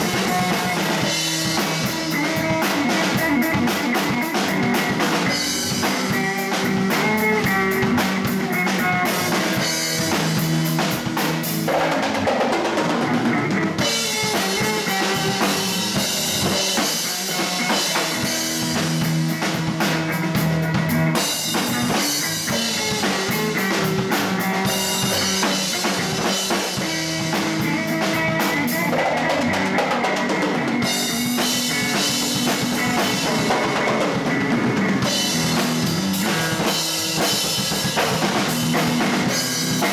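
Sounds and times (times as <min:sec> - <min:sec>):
drum kit playing: 0:00.0 - 0:39.9
electric bass: 0:00.0 - 0:39.9
electric guitar: 0:00.0 - 0:39.9.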